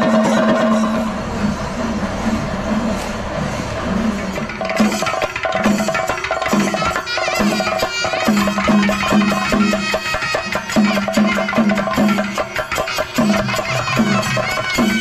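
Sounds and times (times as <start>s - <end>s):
held drone tone: 0.0s - 15.0s
pitched hand drum strokes: 0.0s - 15.0s.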